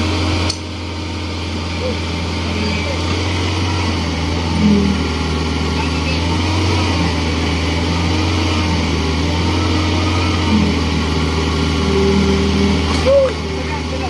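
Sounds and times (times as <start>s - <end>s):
excavator engine humming: 0.0s - 14.0s.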